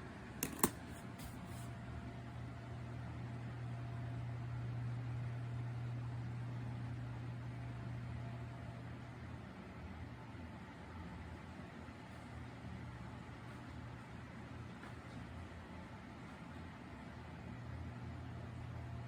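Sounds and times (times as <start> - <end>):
desk fan humming: 0.0 - 19.0.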